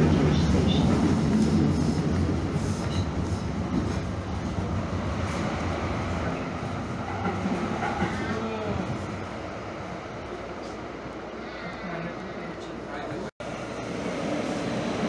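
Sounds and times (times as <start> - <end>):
light-rail car rumbling on track: 0.0 - 15.0.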